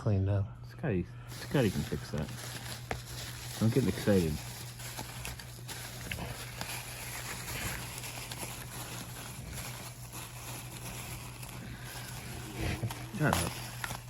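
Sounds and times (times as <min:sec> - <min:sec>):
steady low hum: 0:00.0 - 0:14.0
package rustling and clicking: 0:01.4 - 0:14.0.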